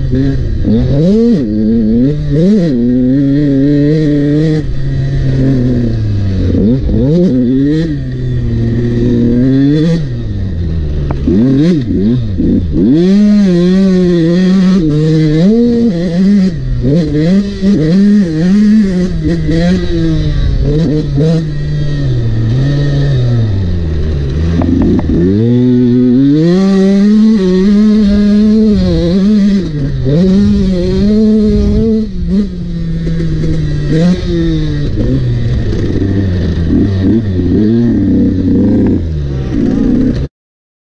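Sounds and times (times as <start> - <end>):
motocross bike engine revving: 0.0 - 40.3.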